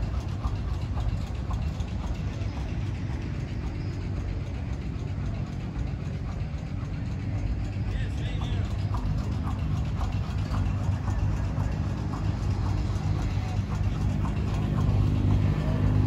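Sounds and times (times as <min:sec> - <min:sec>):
faint ticking: 0:00.0 - 0:16.0
tractor engines idling: 0:00.0 - 0:16.0.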